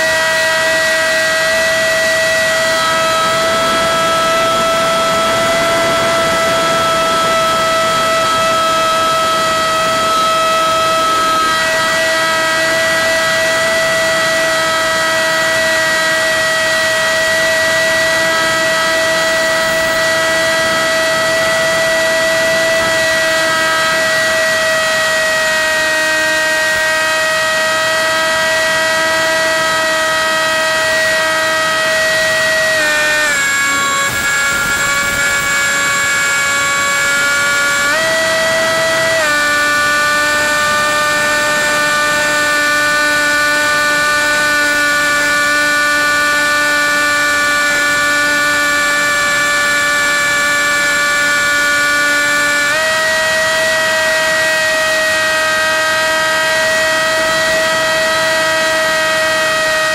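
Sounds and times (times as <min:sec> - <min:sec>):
model plane motor whining: 0:00.0 - 0:59.9.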